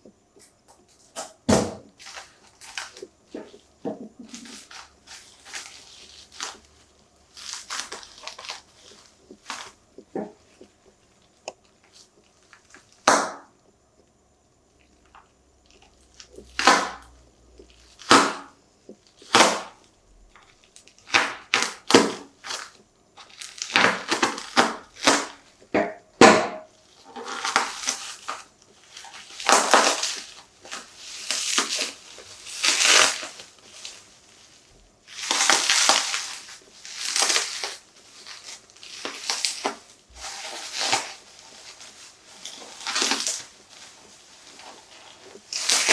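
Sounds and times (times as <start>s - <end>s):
packaging rustling and scraping: 2.0s - 13.0s, 19.0s - 25.7s, 26.6s - 45.9s.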